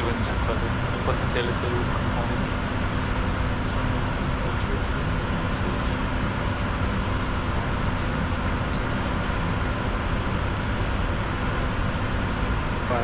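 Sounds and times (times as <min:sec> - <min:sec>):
faint steady tones: 0:00.0 - 0:13.0
low rumble: 0:00.0 - 0:13.0.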